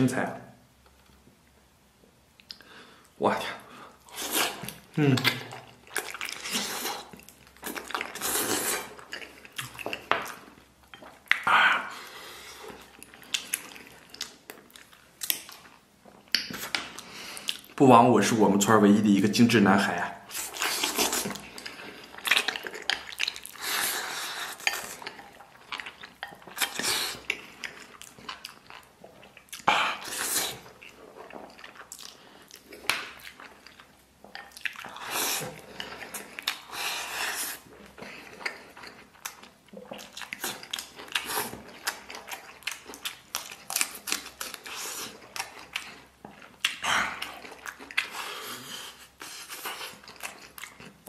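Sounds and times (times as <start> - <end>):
eating and chewing: 2.4 - 17.8, 18.6 - 51.0.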